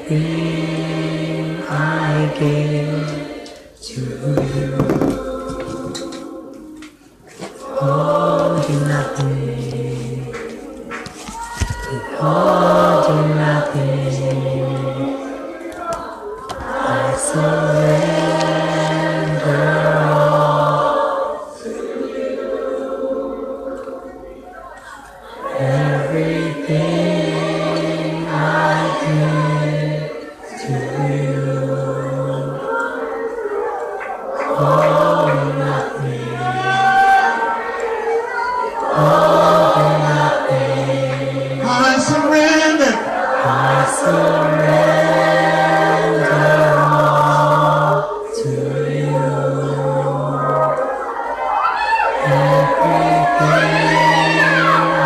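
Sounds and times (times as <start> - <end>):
choir singing over low chords: 0.0 - 11.0, 11.8 - 55.0.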